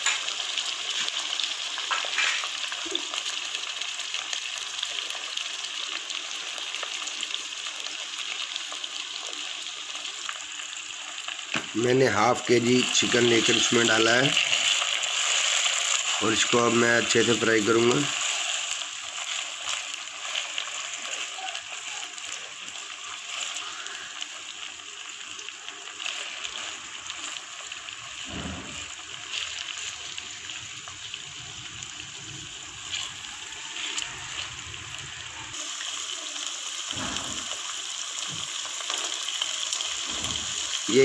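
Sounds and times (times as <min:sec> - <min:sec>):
chicken sizzling in a wok: 0:00.0 - 0:41.0.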